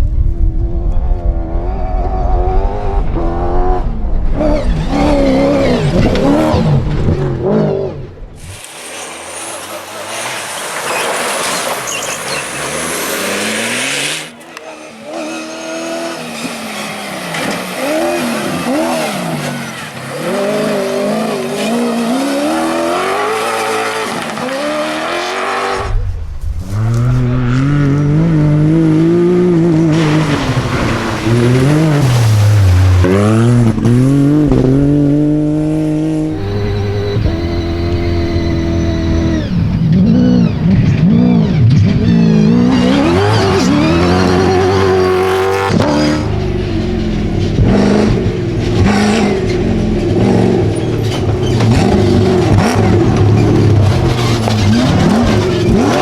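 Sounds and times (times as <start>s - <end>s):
rally car engines racing: 0.0s - 56.0s.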